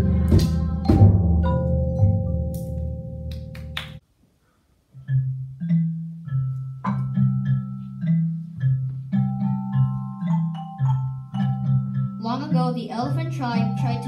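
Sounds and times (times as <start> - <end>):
mallet percussion melody: 0.0 - 4.0, 5.0 - 14.0.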